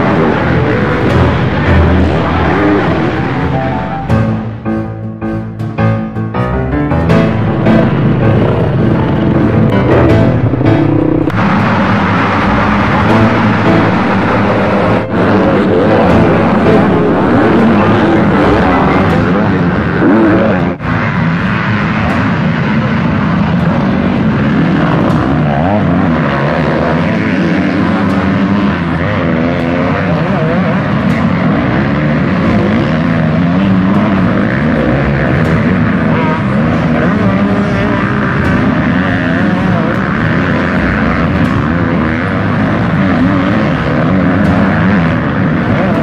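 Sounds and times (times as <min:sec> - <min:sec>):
motocross bike engines revving: 0:00.0 - 0:46.0.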